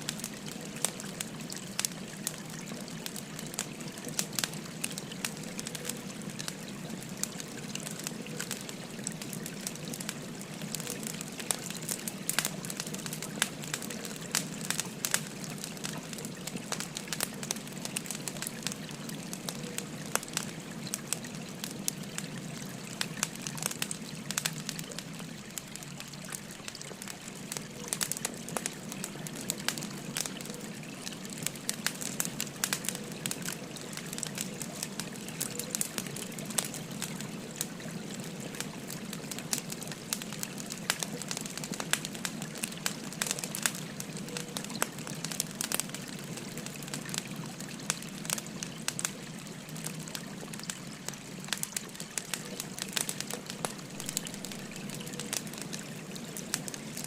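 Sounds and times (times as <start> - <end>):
stream flowing: 0.0 - 57.0
wood fire crackling and popping: 0.0 - 57.0.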